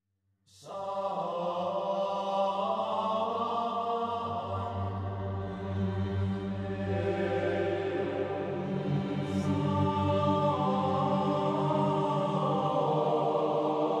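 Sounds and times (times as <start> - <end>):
slow chant-like voices: 0.5 - 14.0.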